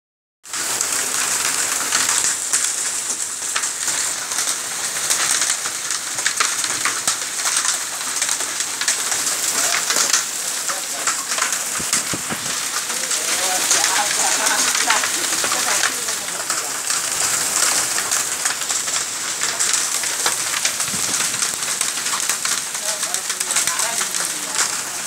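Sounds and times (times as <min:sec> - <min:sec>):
hailstones ticking: 0:00.5 - 0:25.0
heavy rain hissing: 0:00.5 - 0:25.0.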